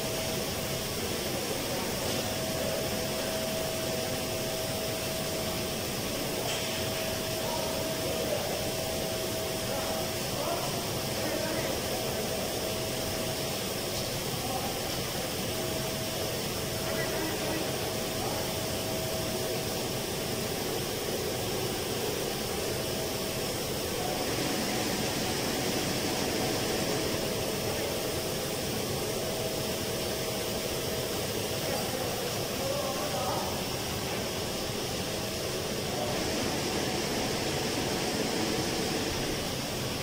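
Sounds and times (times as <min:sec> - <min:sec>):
machinery and ventilation rushing: 0:00.0 - 0:40.0.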